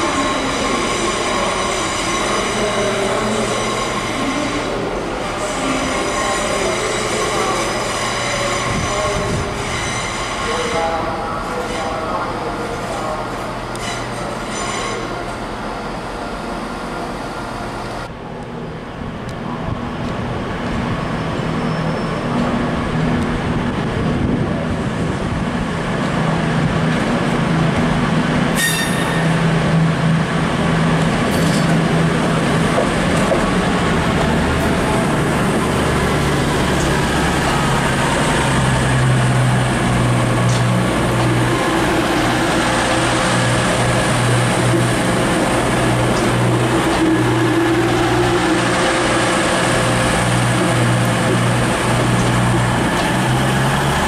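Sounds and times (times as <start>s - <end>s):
train humming: 0.0s - 54.0s.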